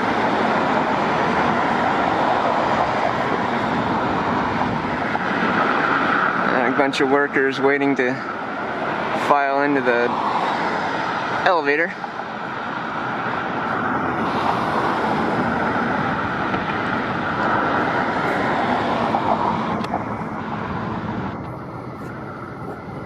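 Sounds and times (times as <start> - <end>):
engine roar: 0.0 - 23.0.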